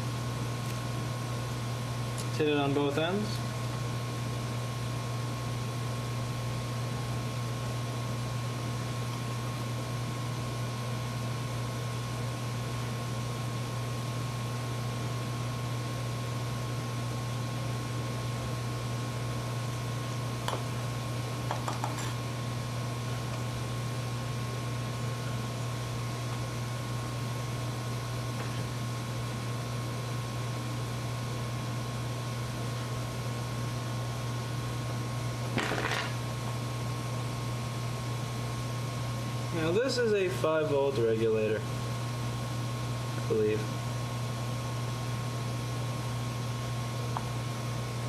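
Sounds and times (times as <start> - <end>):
electrical equipment hum and whirr: 0.0 - 48.0.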